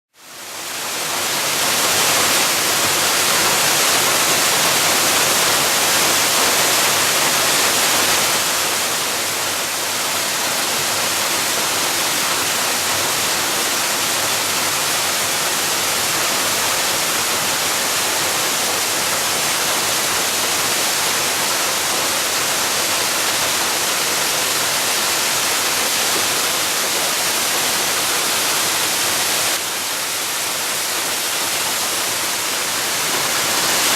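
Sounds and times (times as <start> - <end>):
waterfall roaring: 0.2 - 33.9.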